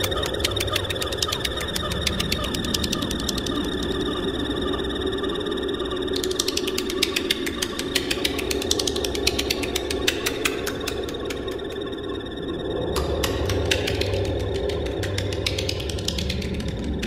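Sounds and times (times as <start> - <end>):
rapid irregular clicks: 0.0 - 4.0, 6.1 - 11.9, 12.8 - 17.0
low electronic drone: 0.0 - 17.0.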